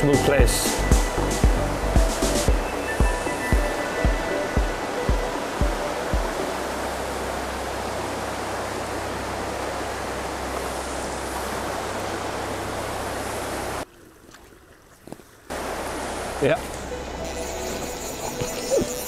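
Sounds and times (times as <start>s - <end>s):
river rushing over stones: 0.0s - 13.9s, 15.5s - 17.2s.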